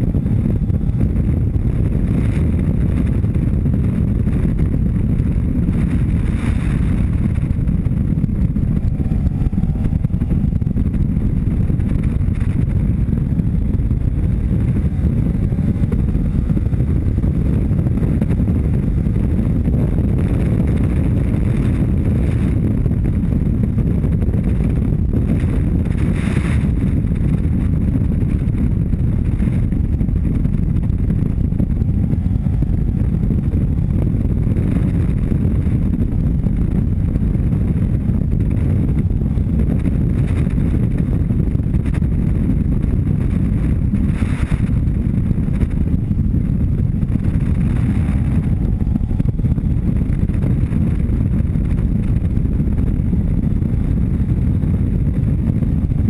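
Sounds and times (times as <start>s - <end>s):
motorcycle engine cruising: 0.0s - 56.0s
wind on microphone: 0.0s - 56.0s.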